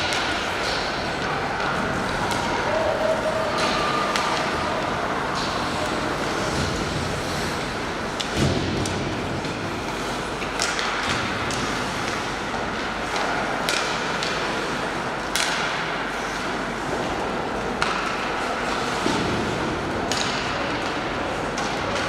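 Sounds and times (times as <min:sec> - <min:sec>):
hockey sticks and puck clacking: 0:00.0 - 0:22.0
skates scraping ice: 0:00.0 - 0:22.0.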